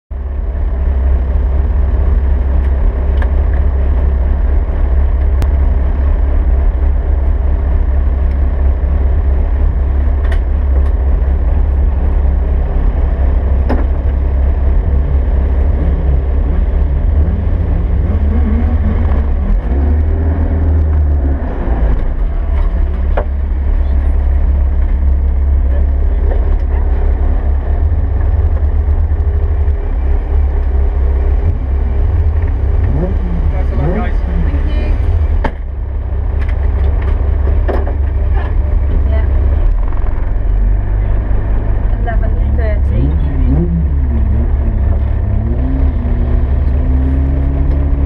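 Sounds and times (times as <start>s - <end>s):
car engine idling: 0.1s - 48.0s.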